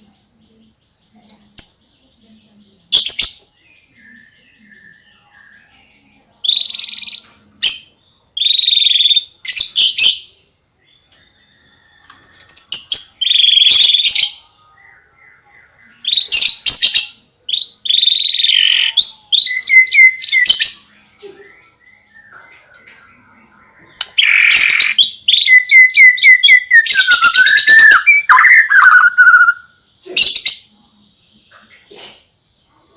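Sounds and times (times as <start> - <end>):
bird singing trills: 0.0 - 31.7.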